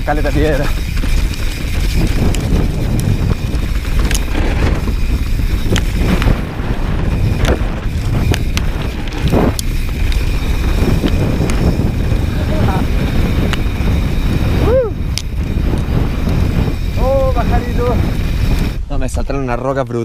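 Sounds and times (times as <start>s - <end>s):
stones clicking against bike: 0.0s - 18.8s
tyres rumbling on gravel: 0.0s - 20.0s
wind buffeting microphone: 0.0s - 20.0s.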